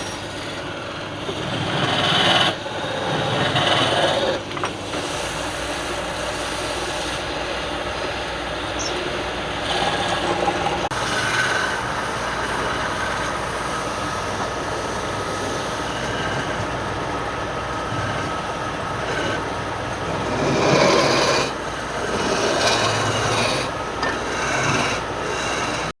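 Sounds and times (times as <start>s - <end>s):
wood lathe running: 0.0s - 25.9s
tool scraping spinning wood: 0.0s - 26.0s.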